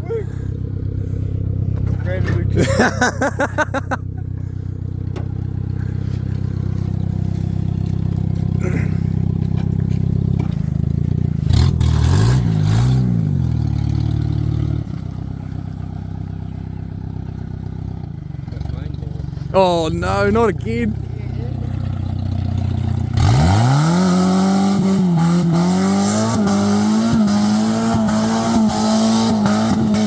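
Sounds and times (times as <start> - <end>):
car engine running and revving: 0.0 - 30.0.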